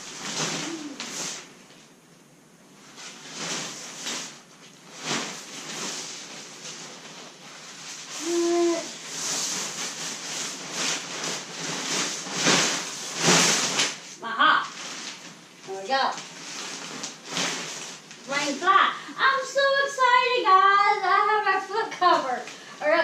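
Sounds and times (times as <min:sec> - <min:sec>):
tent fabric rustling: 0:00.0 - 0:01.9, 0:02.7 - 0:21.4.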